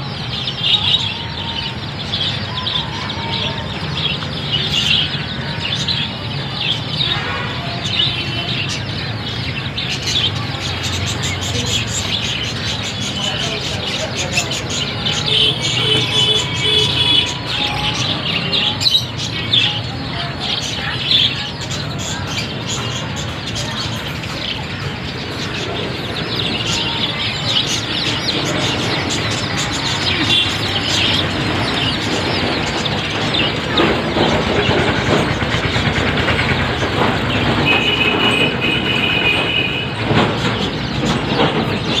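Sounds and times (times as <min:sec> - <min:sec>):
caged birds chirping: 0:00.0 - 0:42.0
held bird call: 0:00.2 - 0:42.0.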